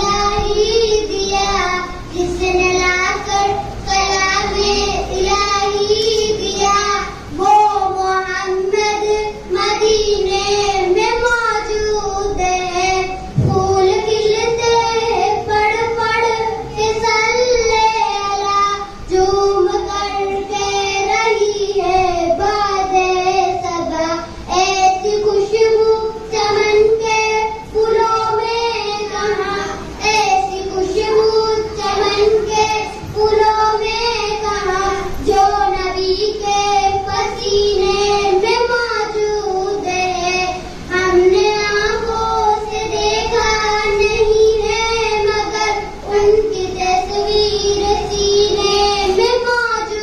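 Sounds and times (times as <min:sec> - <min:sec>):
child singing into a microphone: 0:00.0 - 0:50.0.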